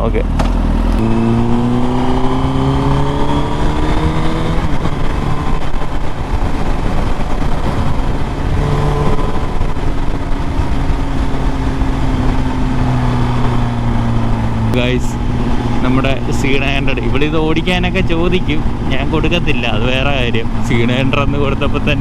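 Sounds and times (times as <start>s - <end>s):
motorcycle engine accelerating: 0.0s - 22.0s
road and wind noise: 0.0s - 22.0s.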